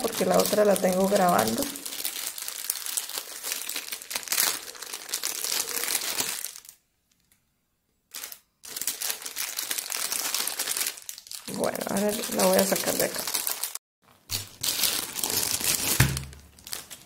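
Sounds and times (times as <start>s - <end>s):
plastic bag crinkling: 0.0s - 7.3s, 8.1s - 17.0s.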